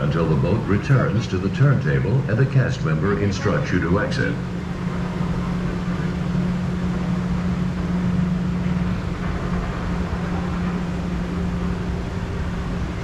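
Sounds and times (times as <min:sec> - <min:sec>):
machinery humming: 0:00.0 - 0:13.0
moving water: 0:00.0 - 0:13.0.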